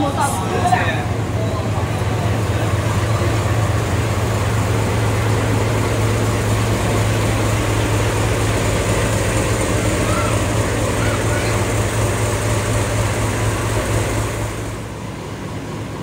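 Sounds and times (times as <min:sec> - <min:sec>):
locomotive engine idling: 0:00.0 - 0:16.0.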